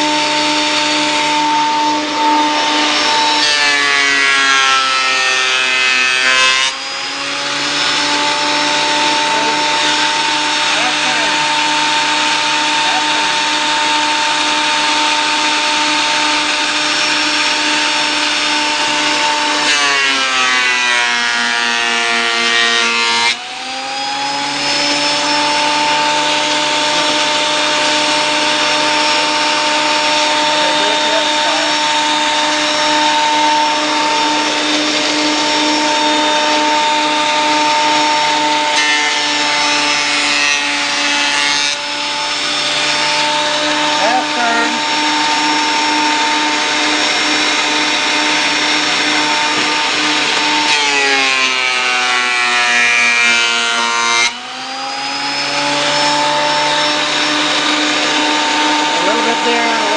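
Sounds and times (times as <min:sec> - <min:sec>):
surface planer motor whine: 0:00.0 - 0:59.9.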